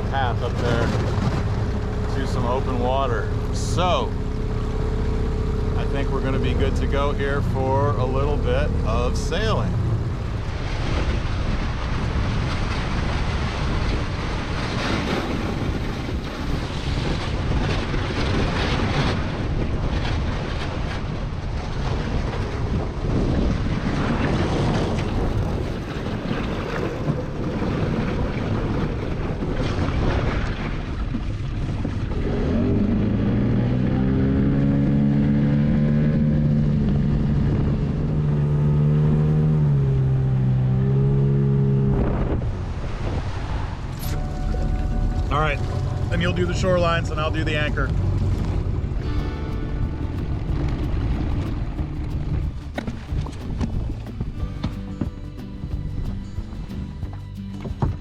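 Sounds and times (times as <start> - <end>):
outboard motor running: 0.0 - 58.0
wind noise on microphone: 0.0 - 58.0.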